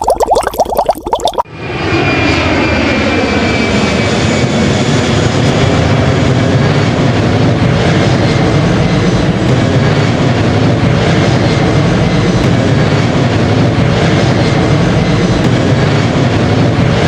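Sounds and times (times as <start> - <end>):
airplane engine drone: 1.4 - 17.0.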